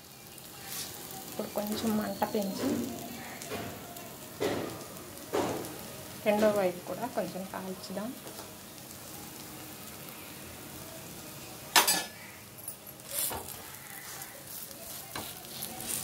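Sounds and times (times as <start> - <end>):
batter sizzling in oil on griddle: 0.0 - 16.0.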